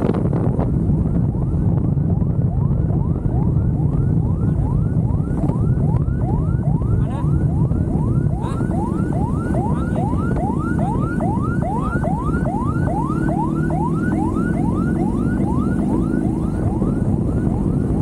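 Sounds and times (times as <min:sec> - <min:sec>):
emergency siren yelping: 0:00.0 - 0:18.0
motorcycle rumbling: 0:00.0 - 0:18.0
wind: 0:00.0 - 0:18.0.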